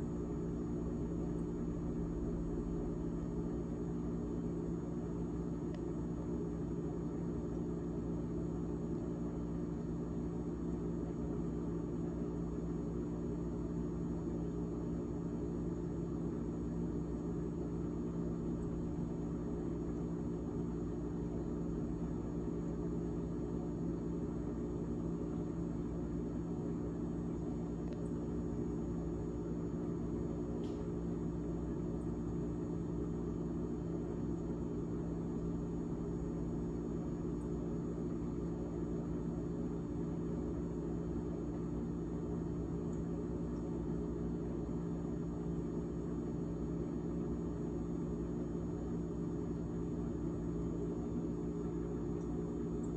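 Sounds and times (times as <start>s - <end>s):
refrigerator fan humming: 0.0s - 52.9s.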